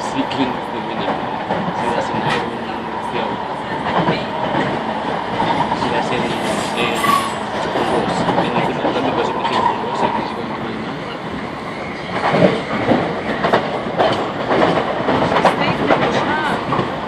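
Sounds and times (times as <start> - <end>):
train wheels rumbling on rails: 0.0 - 17.0
clicks and clunks over track: 0.2 - 2.6, 3.3 - 6.6, 7.5 - 10.7, 12.1 - 17.0.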